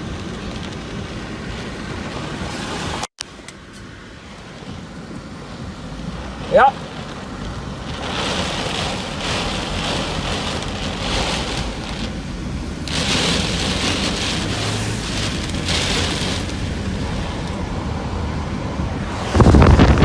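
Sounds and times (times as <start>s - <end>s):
gusting wind: 0.0s - 3.1s, 4.0s - 20.0s
heavy rain: 0.0s - 3.1s, 4.2s - 20.0s.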